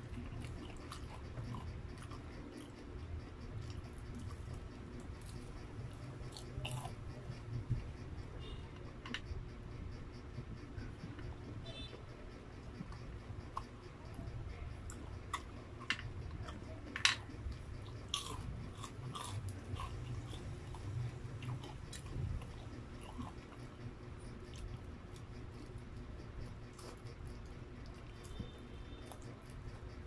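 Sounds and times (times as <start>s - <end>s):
crunchy chewing: 0.0s - 30.0s.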